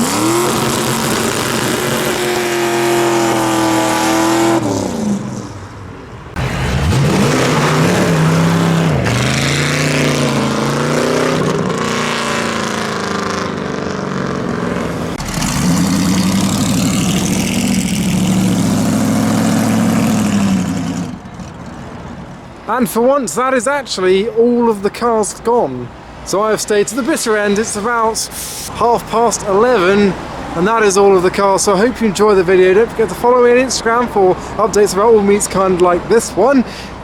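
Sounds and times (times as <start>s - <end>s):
car engines accelerating: 0.0s - 22.7s, 25.9s - 37.0s.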